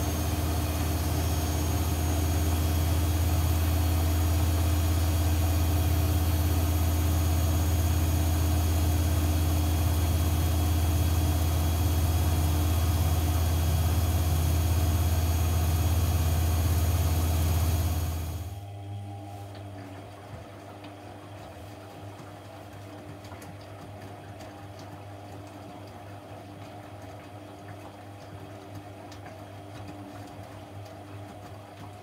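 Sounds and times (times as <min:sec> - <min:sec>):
washing machine humming: 0:00.0 - 0:32.0.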